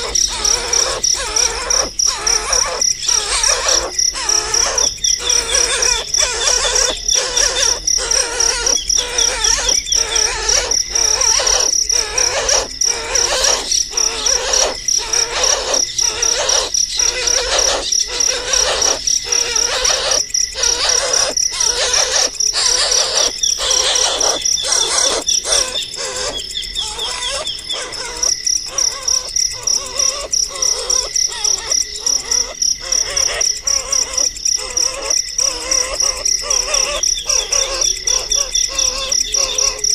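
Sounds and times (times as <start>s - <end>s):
bird chirps: 0.0s - 39.9s
pulsing cricket-like trill: 0.0s - 39.9s.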